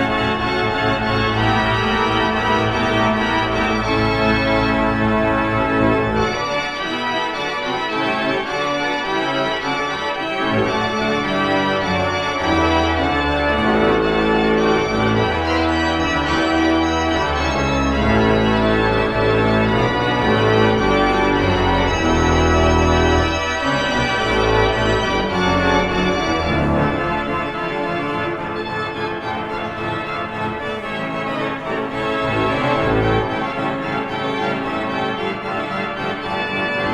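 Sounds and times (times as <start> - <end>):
organ bass pedal notes: 0.0 - 30.8, 31.7 - 35.3
church organ rapid running notes: 0.0 - 36.9.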